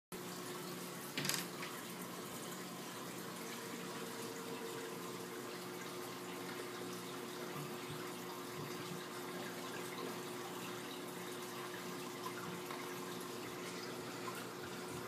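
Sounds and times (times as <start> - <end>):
aquarium water splashing: 0.2 - 15.0
faint steady hum: 0.2 - 15.0.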